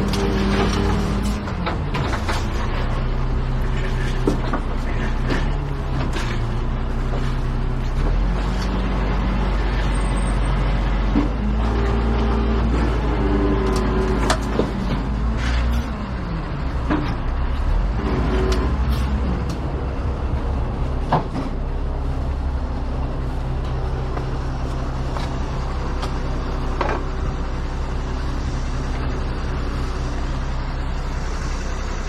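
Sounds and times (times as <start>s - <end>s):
large truck engine running: 0.0s - 32.0s.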